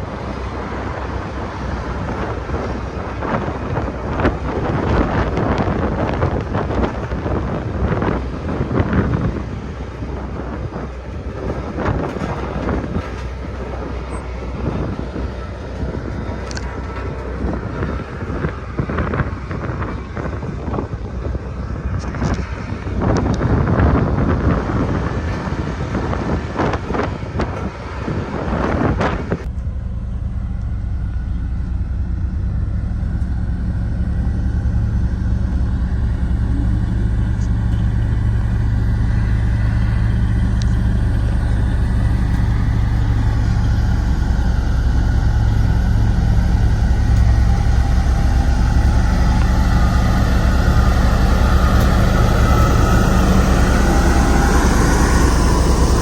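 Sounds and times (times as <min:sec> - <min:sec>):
road roller diesel engine humming: 0:00.0 - 0:56.0
rough wind-like noise: 0:00.0 - 0:56.0.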